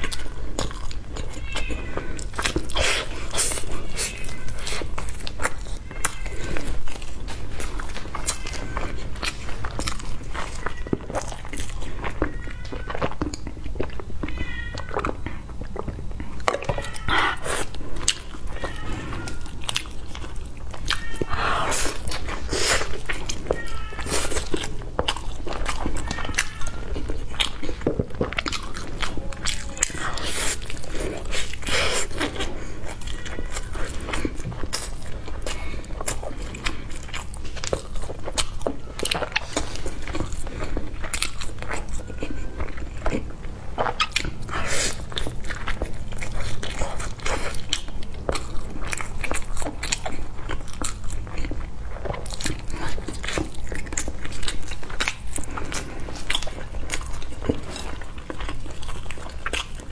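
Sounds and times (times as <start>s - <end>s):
person chewing sticky rice: 0.0s - 59.9s.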